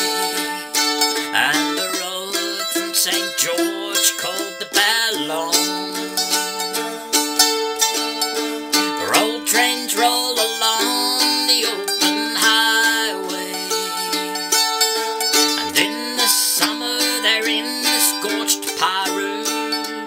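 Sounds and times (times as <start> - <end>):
mandolin strummed: 0.0 - 20.0.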